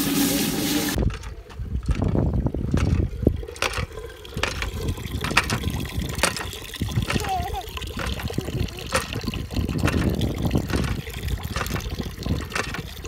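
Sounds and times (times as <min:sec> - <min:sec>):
water splashing: 0:00.0 - 0:13.0
hand pump handle clanking: 0:01.0 - 0:13.0.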